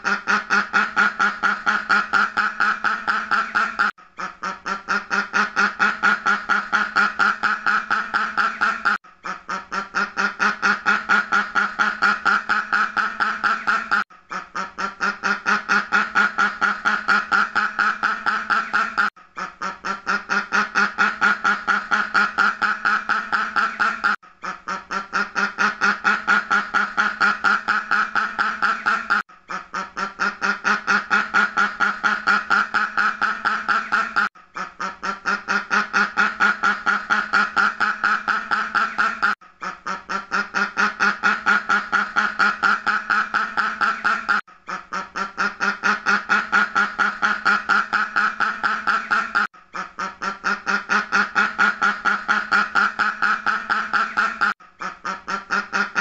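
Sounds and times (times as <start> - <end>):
duck quacking: 0.0 - 56.0.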